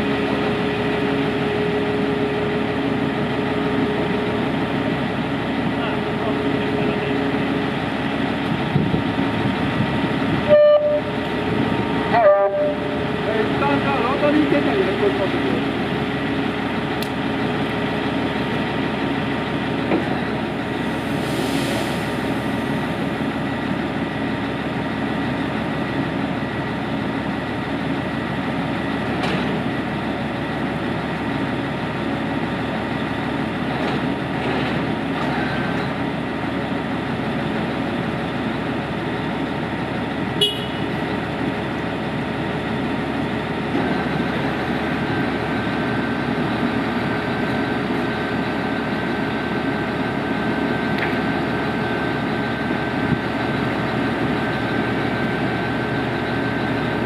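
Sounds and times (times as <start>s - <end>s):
vehicle engine running: 0.0s - 21.2s, 22.3s - 57.0s.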